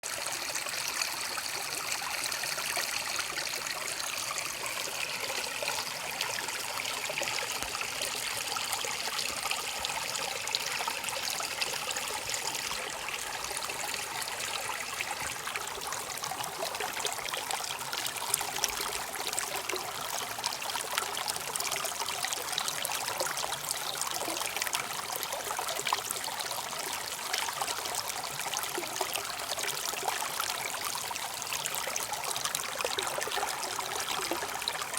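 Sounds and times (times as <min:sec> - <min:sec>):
water trickling: 0:00.0 - 0:34.9.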